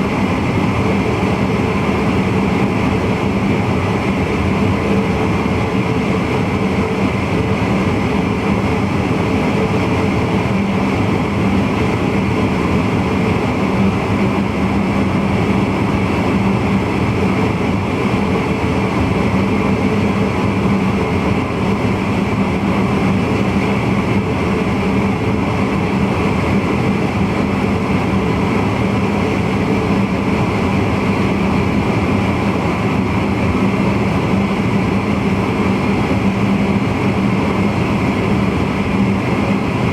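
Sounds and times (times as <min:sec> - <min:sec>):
train cab running hum: 0:00.0 - 0:39.9.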